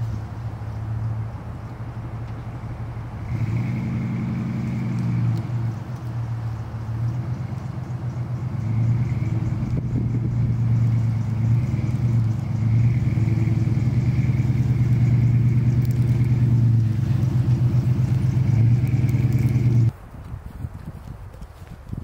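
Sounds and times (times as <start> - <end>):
pickup truck engine running: 0.0 - 19.9.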